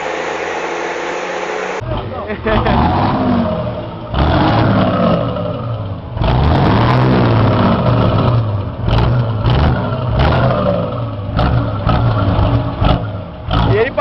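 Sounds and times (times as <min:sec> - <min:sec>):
diesel truck engine revving: 0:00.0 - 0:14.0.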